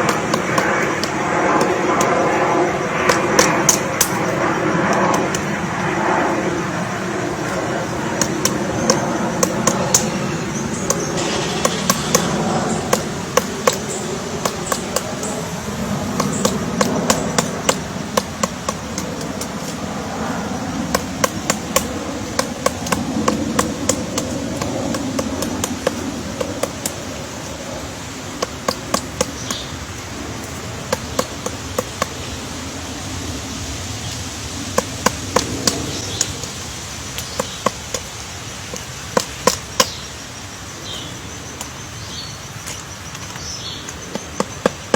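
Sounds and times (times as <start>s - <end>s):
woodpecker pecking at wood: 0.0s - 32.6s, 34.0s - 40.2s, 40.9s - 44.9s.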